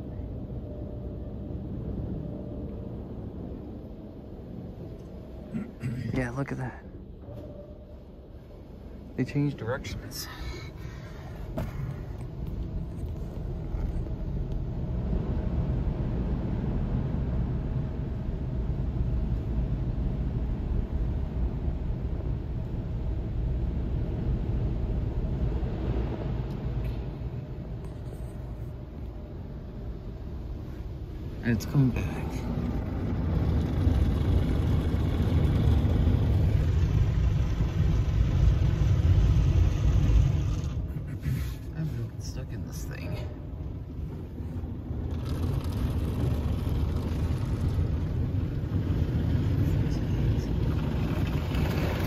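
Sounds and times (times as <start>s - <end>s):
faint steady hum: 0.0s - 52.0s
car wash water spray rumble: 8.2s - 52.0s.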